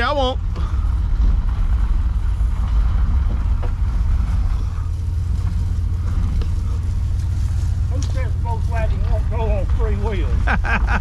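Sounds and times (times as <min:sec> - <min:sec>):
towed car rumbling: 0:00.0 - 0:11.0.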